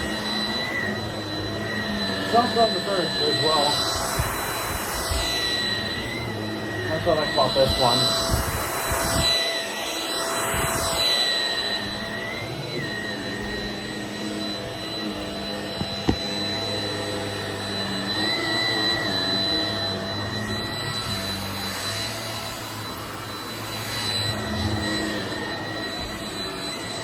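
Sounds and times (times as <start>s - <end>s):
vacuum cleaner whining: 0.0s - 27.0s.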